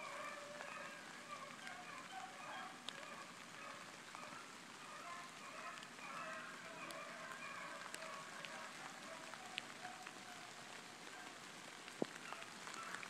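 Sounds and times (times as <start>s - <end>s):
light rain patter: 0.0s - 13.0s
raindrop ticks: 0.0s - 13.0s.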